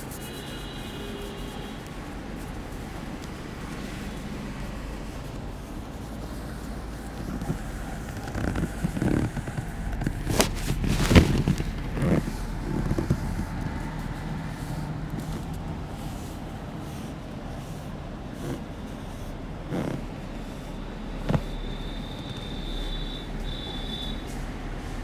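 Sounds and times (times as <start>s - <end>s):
hands rubbing and patting head: 0.0s - 25.0s.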